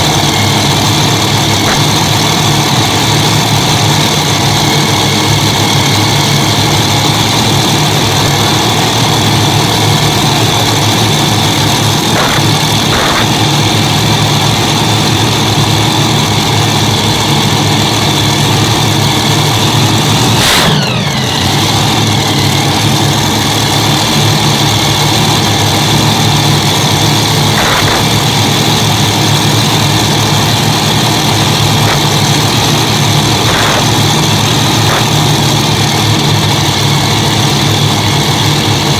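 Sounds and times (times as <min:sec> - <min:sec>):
short falling whine: 0:00.0 - 0:17.1, 0:19.2 - 0:23.6, 0:26.6 - 0:37.6
tractor engines idling loudly: 0:00.0 - 0:38.9.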